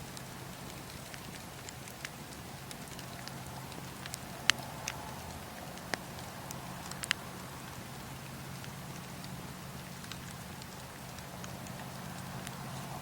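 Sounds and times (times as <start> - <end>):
fire popping: 0.0 - 13.0
wood fire crackling: 0.0 - 13.0.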